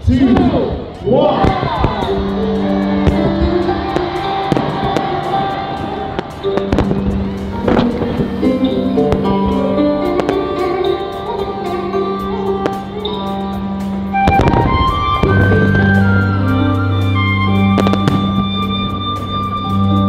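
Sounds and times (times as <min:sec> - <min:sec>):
fireworks bangs: 0:00.0 - 0:19.9
music over loudspeakers: 0:00.0 - 0:20.0.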